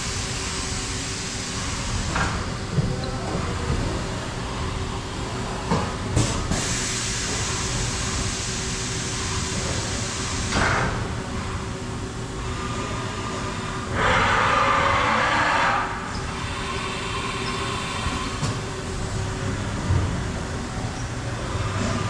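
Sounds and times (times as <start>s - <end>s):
machine shop hum: 0.0s - 22.0s.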